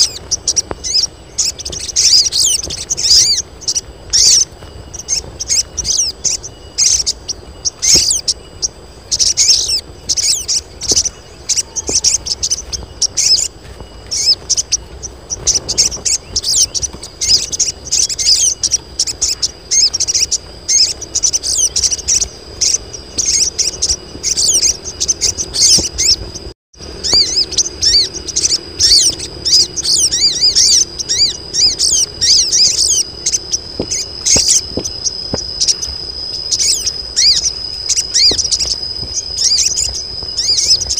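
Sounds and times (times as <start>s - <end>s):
birds chirping and twittering: 0.0s - 40.9s
thin steady high tone: 0.0s - 40.9s.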